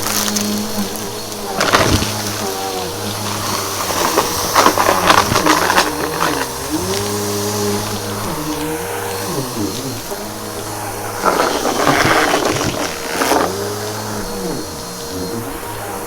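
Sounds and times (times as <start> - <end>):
debris crunching through vacuum: 0.0 - 16.0
vacuum cleaner running: 0.0 - 16.0.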